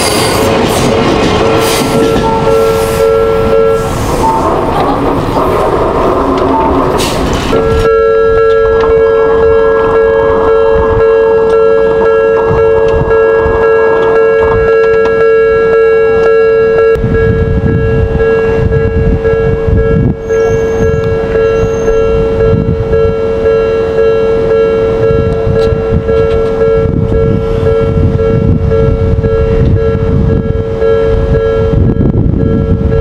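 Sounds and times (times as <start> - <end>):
electric train rumble: 0.0 - 33.0
level crossing warning bell: 1.4 - 33.0.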